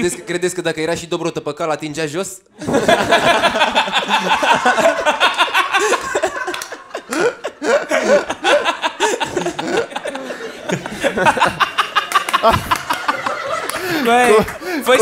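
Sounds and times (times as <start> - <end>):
people laughing together: 2.6 - 15.0.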